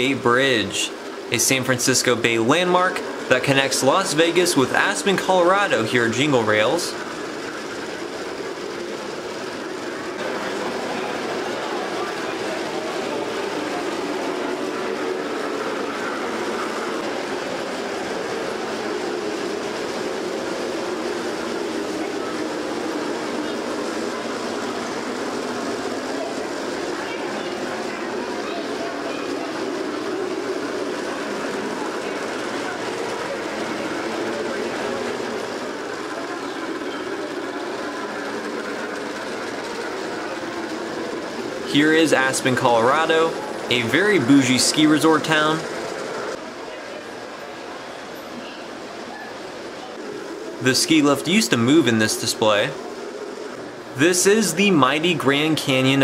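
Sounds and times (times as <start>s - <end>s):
model train wheels on rails: 0.0s - 56.0s.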